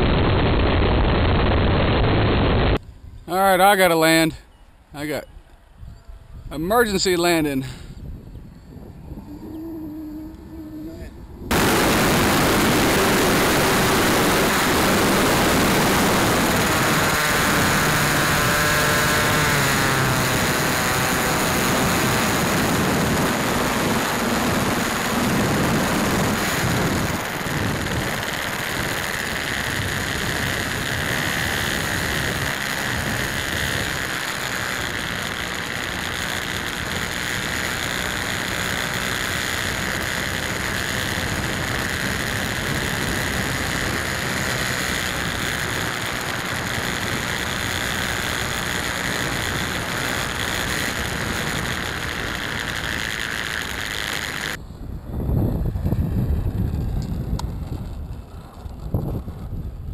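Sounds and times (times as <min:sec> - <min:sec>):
wind rush: 0:00.0 - 0:03.4, 0:05.7 - 0:59.9
model airplane engine and propeller: 0:06.7 - 0:59.9.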